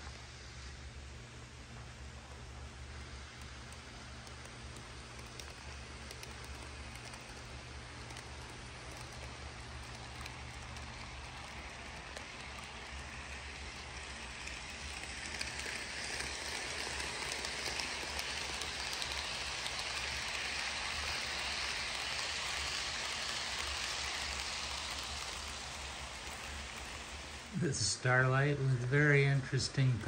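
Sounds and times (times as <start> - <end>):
model train wheels rattling on rail: 2.2 - 30.0.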